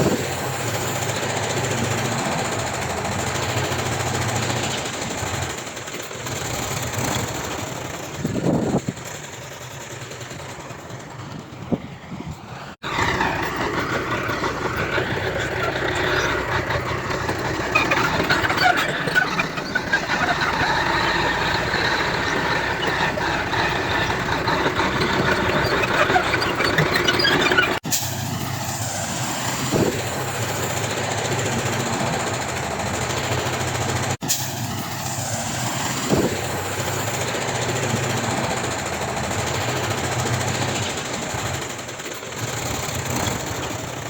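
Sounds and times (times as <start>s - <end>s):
dense rattling clatter: 0.0s - 44.0s
heavy machinery diesel engines: 0.0s - 44.0s.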